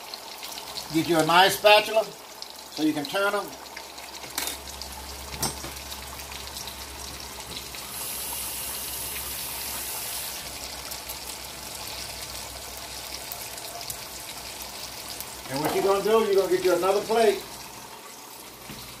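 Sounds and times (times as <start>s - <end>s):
food sizzling in oil: 0.0s - 19.0s
kitchen tap running: 0.0s - 19.0s.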